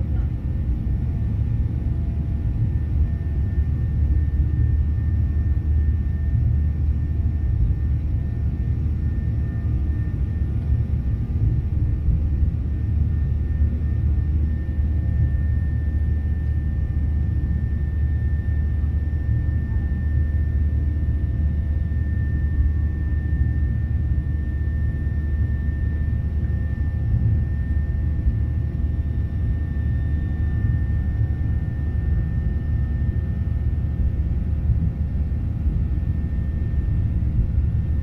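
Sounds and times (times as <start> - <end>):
airplane cabin engine rumble: 0.0 - 38.0.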